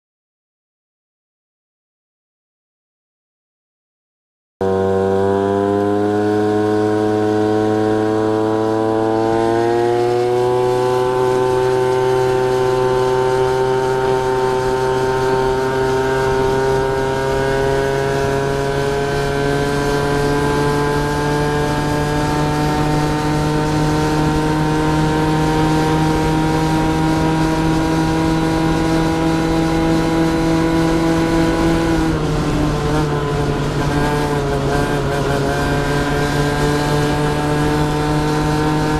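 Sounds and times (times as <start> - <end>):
scooter engine accelerating: 4.6 - 38.9.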